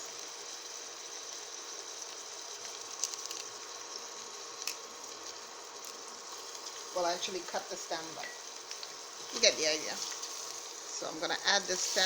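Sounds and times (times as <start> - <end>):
onions sizzling in frying pan: 0.0 - 12.0.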